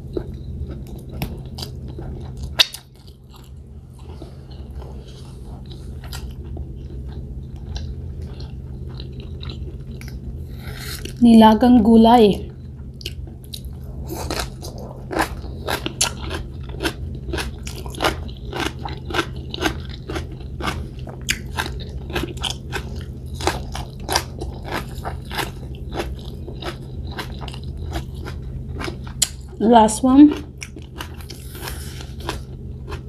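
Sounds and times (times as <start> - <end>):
chewing and crunching vegetables: 0.0 - 11.2, 12.5 - 33.0
low hum: 0.0 - 33.0.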